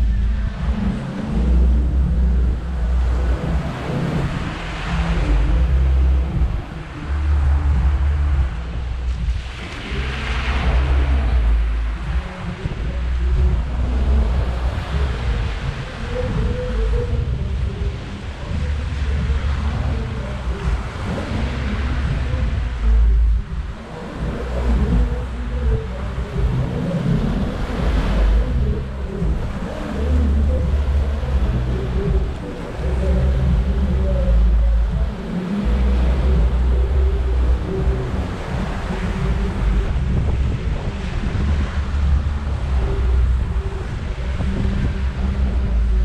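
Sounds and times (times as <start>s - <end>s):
wind buffeting microphone: 0.0s - 46.0s
hiss of surf: 0.1s - 46.0s.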